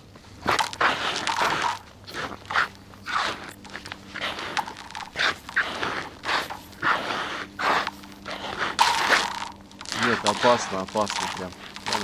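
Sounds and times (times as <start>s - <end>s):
footsteps on frozen ground: 0.3s - 12.0s.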